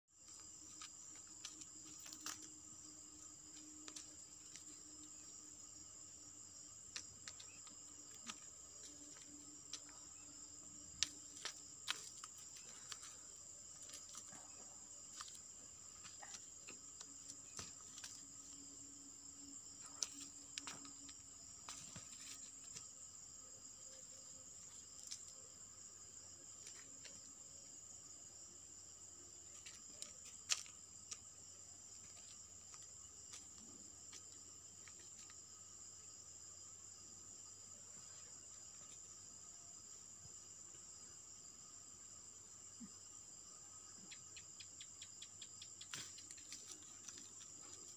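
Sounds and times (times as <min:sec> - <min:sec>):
crickets chirring: 0:00.1 - 0:47.9.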